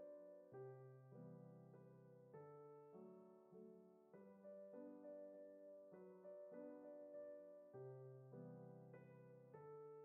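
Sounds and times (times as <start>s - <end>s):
quiet piano music: 0.0s - 10.0s.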